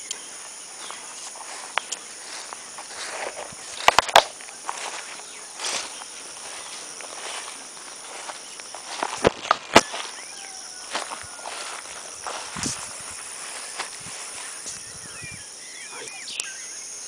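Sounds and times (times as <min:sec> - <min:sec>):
footsteps through grass: 0:00.0 - 0:15.2
high-pitched insect drone: 0:00.0 - 0:17.0.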